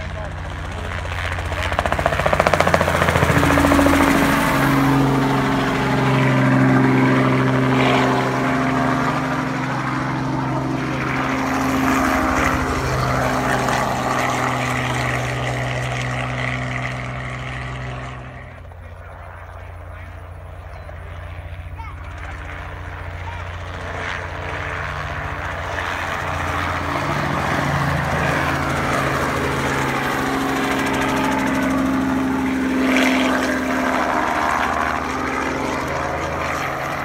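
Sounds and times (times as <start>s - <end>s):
helicopter engine hum: 0.0s - 37.0s
helicopter rotor chop: 0.0s - 37.0s.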